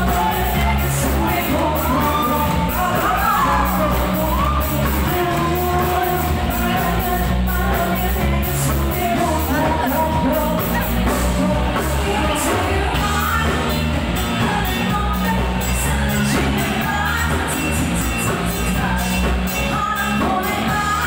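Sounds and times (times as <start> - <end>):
live band playing: 0.0 - 21.0
people singing: 0.0 - 21.0
strong bass: 0.0 - 21.0.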